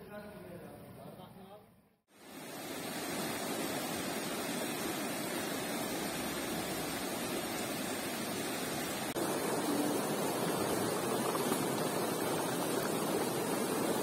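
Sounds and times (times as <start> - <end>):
stream rushing over rocks: 2.2 - 14.0.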